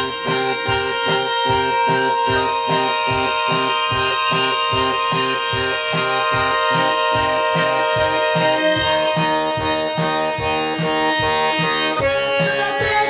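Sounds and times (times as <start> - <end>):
bandoneon playing: 0.0 - 13.0.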